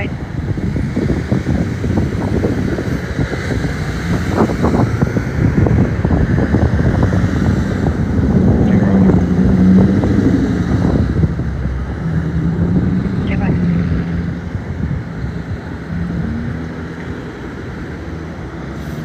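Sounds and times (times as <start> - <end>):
street traffic: 0.0 - 19.0
vehicle engine hum: 0.0 - 19.0
wind buffeting microphone: 0.0 - 19.0.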